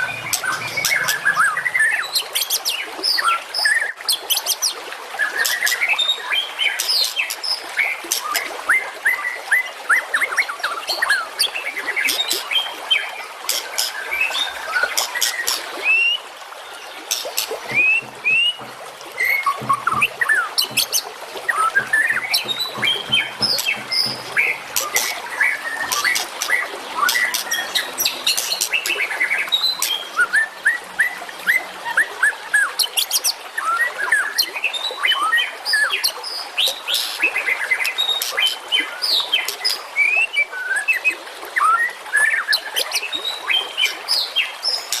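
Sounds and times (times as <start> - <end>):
songbirds chirping and whistling: 0.0 - 3.9, 11.0 - 45.0.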